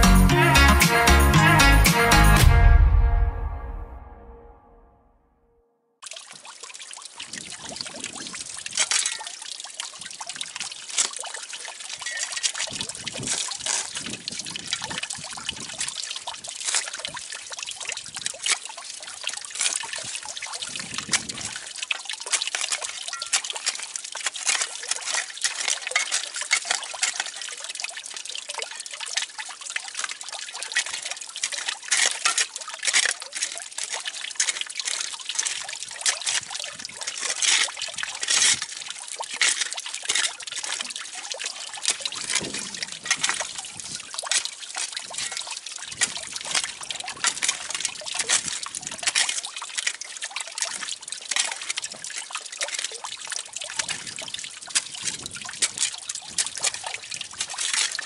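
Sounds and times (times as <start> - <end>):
water trickling and splashing: 6.0 - 58.0.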